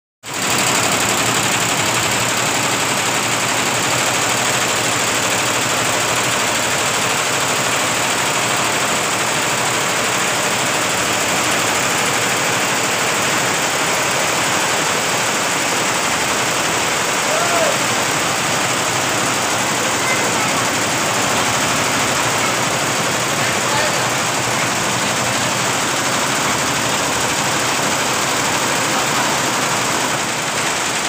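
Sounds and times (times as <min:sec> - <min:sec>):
embroidery machine stitching: 0:00.2 - 0:31.0.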